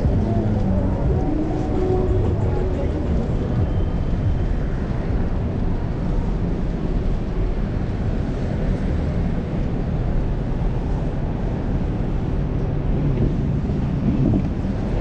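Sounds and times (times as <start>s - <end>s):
road and traffic noise: 0.0s - 15.0s
wind on microphone: 0.0s - 15.0s.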